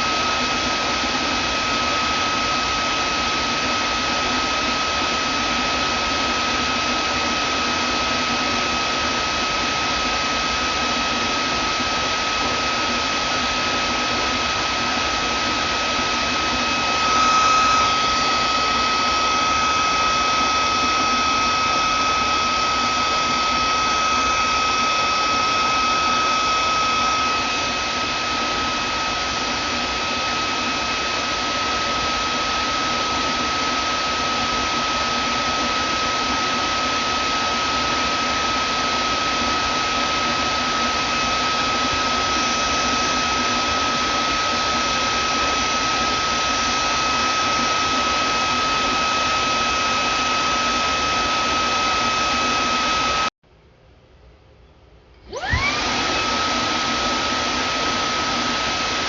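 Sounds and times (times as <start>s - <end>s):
vacuum cleaner running: 0.0s - 53.4s, 55.2s - 59.0s.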